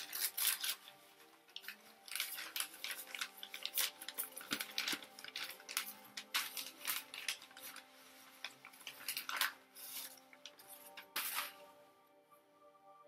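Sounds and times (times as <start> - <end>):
paper and plastic crinkling: 0.0 - 11.8.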